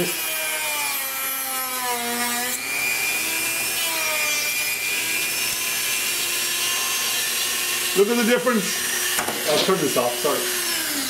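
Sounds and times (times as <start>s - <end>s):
blade rasping in wood: 0.0s - 11.0s
rotary tool motor whine: 0.0s - 11.0s.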